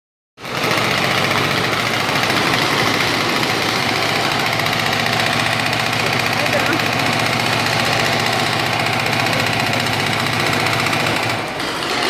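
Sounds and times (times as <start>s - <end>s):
engine running with pulse and hiss: 0.4s - 12.0s.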